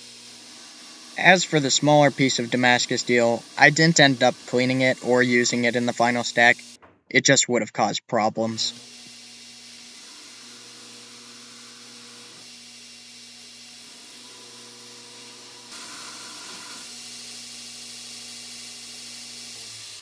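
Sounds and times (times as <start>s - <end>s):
belt grinder grinding steel: 0.0s - 6.8s, 8.5s - 20.0s.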